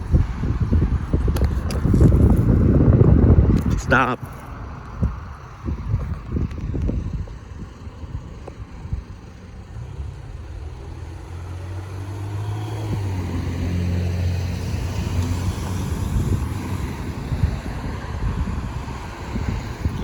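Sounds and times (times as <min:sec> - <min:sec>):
car passing: 0:00.0 - 0:20.0.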